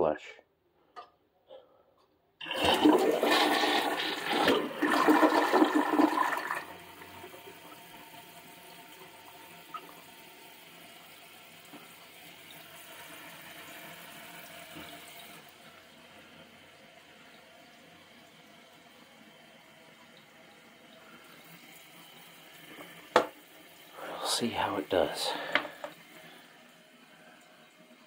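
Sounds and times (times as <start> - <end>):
toilet flushing: 2.4 - 28.0
toilet tank refilling hiss: 2.4 - 28.0.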